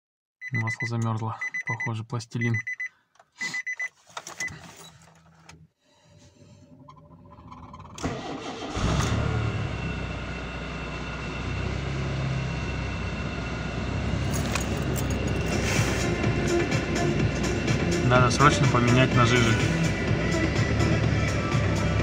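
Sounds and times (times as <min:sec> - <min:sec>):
car engine starting and running: 0:02.5 - 0:22.0.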